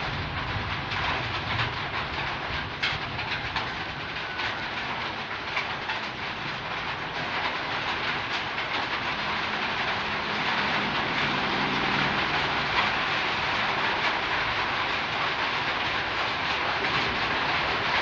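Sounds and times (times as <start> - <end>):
heavy rain hiss: 0.0 - 18.0
raindrops dripping and tapping: 0.0 - 18.0.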